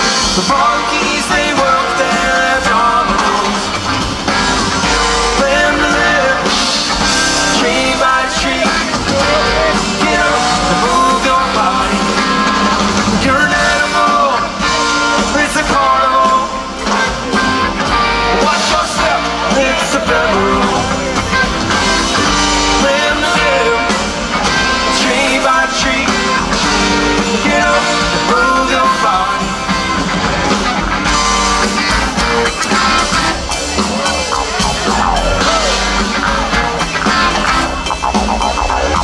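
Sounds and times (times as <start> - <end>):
live rock band playing: 0.0 - 39.0.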